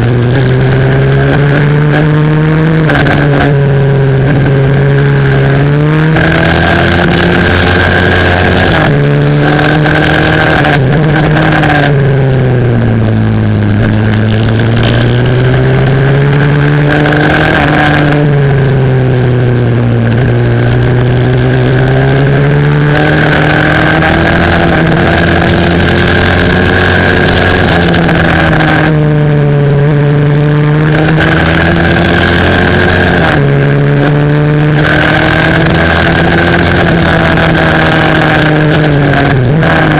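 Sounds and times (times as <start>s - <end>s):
high whine: 0.0s - 39.9s
motorbike engine revving: 0.0s - 39.9s.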